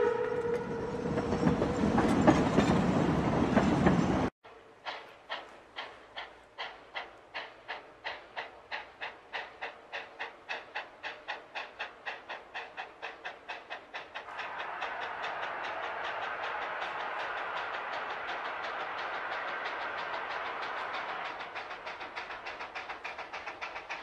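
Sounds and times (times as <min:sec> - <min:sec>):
steam locomotive chuffing: 0:00.0 - 0:24.0
steam hissing: 0:01.3 - 0:24.0.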